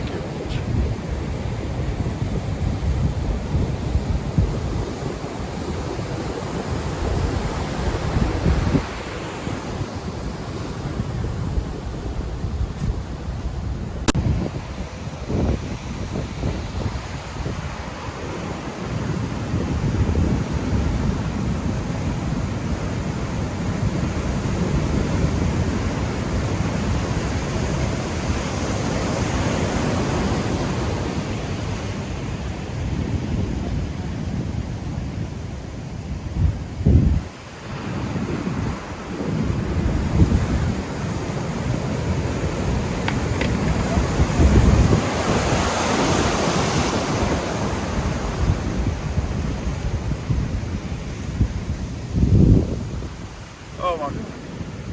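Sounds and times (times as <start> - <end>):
ocean surf breaking: 0.0 - 54.9
wind buffeting microphone: 0.0 - 54.9.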